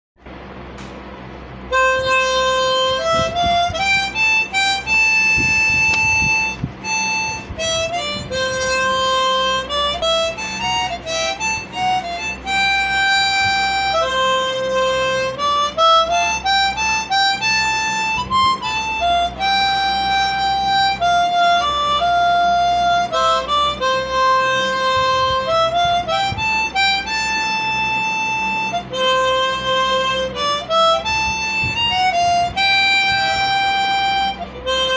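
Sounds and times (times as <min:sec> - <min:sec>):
instrumental melody: 0:00.8 - 0:34.9.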